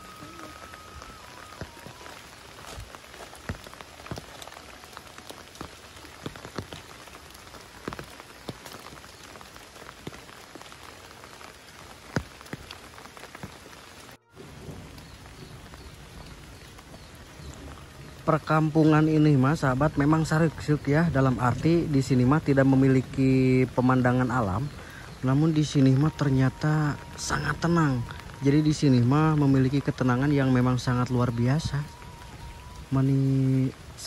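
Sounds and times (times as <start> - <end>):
rain on foliage and roofs: 0.0 - 34.0.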